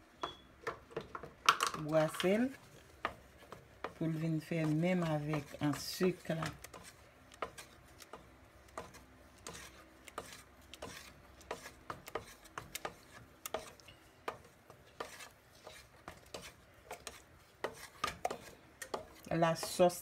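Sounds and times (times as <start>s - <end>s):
wooden spoon scraping a pot: 0.8s - 20.0s.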